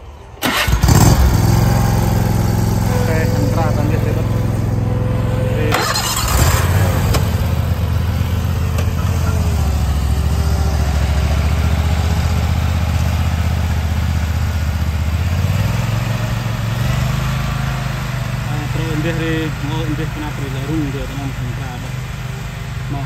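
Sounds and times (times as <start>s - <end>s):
riding lawn mower engine humming: 0.0s - 23.0s.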